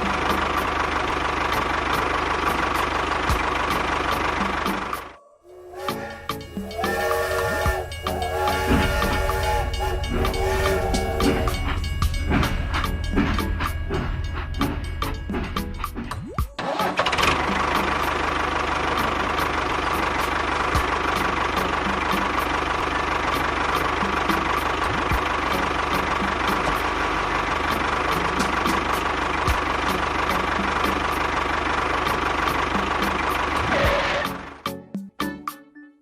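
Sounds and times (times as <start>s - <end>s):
engine running with ticking knock: 0.0s - 5.1s, 5.9s - 34.7s.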